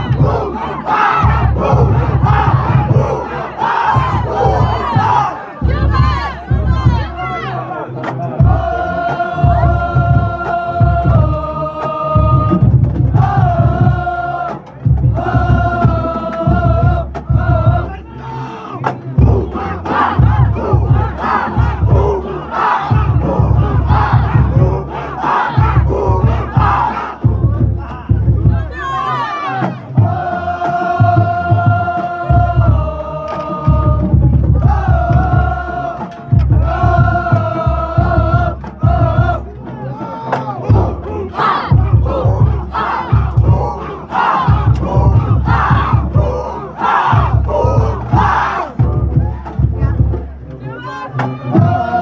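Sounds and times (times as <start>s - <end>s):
pounding bass drums: 0.0s - 7.3s, 8.4s - 18.0s, 19.0s - 29.0s, 33.7s - 39.6s, 40.6s - 50.4s
brass band chords: 0.0s - 17.6s, 19.1s - 39.7s, 40.6s - 50.6s.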